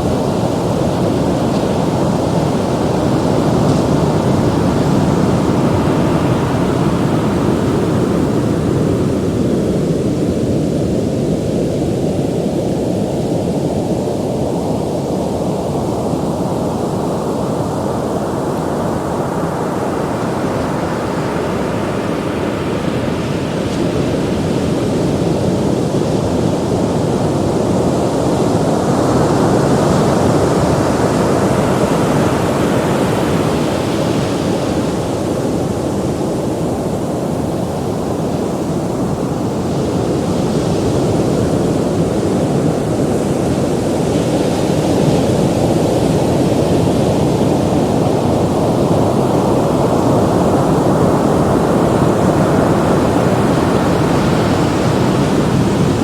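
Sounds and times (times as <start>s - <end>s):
ocean waves breaking: 0.0s - 12.0s, 16.6s - 56.0s.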